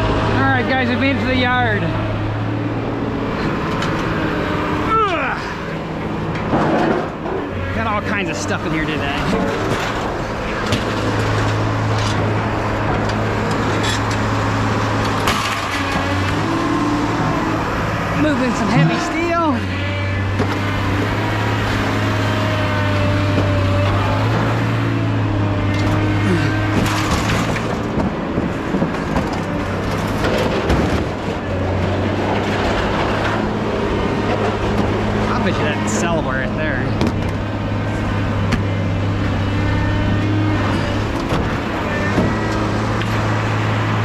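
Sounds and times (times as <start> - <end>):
scrap steel clanking and rattling: 0.0 - 44.0
vehicle engine droning: 0.0 - 44.0.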